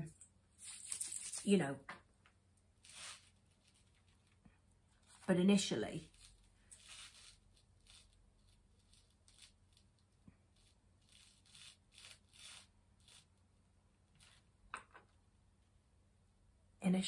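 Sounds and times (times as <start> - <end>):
faint rustles of craft materials: 0.0 - 15.2.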